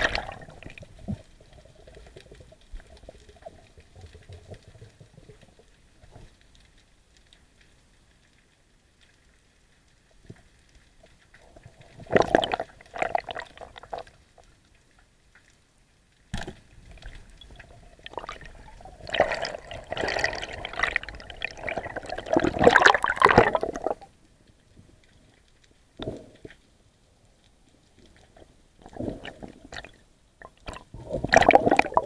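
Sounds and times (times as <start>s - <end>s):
water rushing and bubbling underwater: 0.0s - 32.0s.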